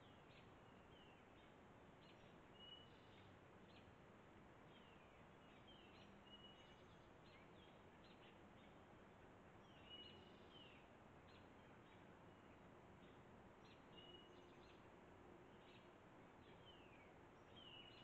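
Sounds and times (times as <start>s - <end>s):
faint birdsong: 0.0s - 18.0s
steady low hiss: 0.0s - 18.0s.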